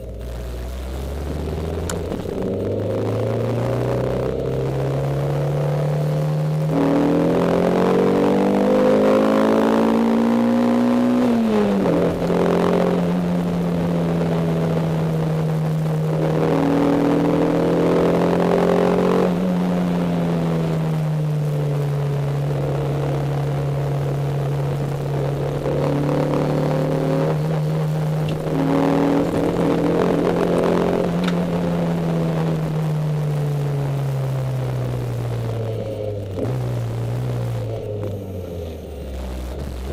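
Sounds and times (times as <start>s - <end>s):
car engine from inside cabin: 0.0s - 39.9s.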